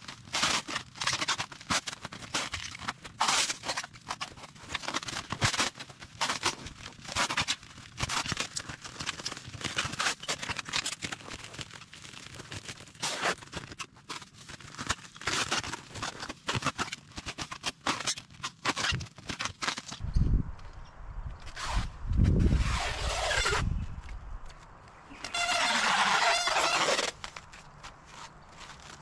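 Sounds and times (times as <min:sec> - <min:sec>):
scratchy rustling and scraping: 0:00.0 - 0:20.0, 0:21.4 - 0:29.0.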